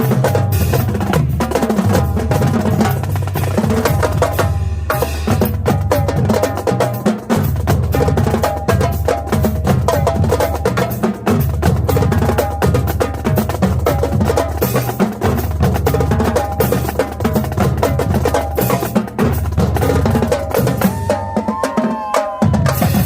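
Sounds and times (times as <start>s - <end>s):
marching drumline playing: 0.0s - 23.0s.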